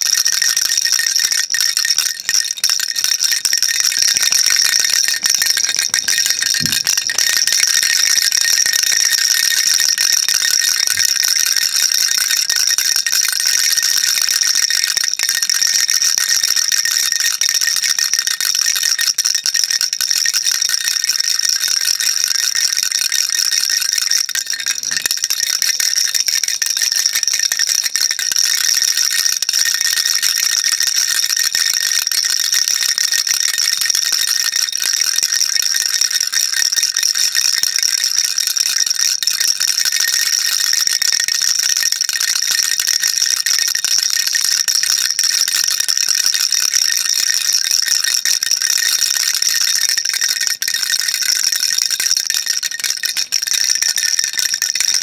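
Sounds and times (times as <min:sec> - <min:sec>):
baby rattle shaken rapidly: 0:00.0 - 0:43.8, 0:48.4 - 0:53.8.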